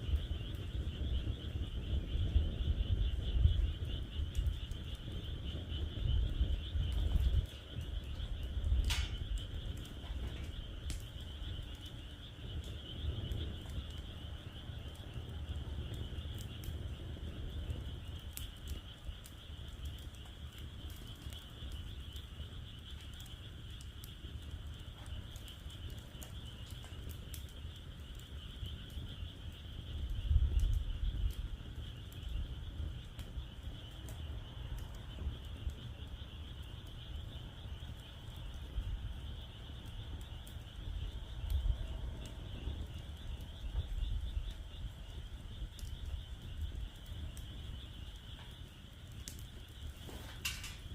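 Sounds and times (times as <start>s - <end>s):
frogs calling: 0.0s - 50.9s
wood fire crackling and popping: 0.0s - 50.9s.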